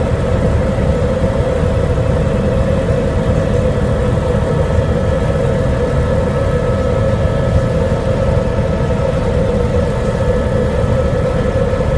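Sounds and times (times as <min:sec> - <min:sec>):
helicopter engine and rotor drone: 0:00.0 - 0:11.9.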